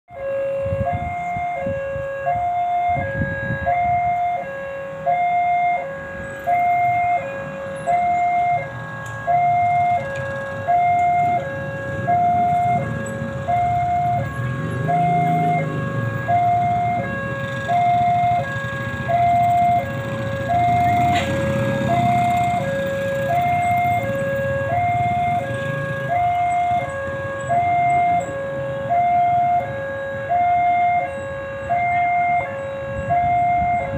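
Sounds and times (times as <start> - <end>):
level crossing two-tone alarm: 0.2 - 33.9.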